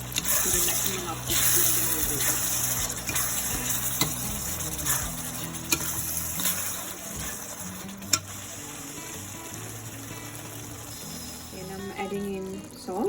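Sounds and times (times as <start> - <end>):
chili paste sizzling in oil: 0.0 - 13.0.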